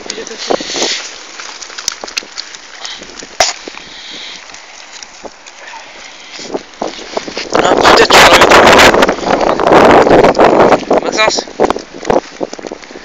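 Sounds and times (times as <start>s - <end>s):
rustling of fishing net mesh: 0.0s - 13.0s.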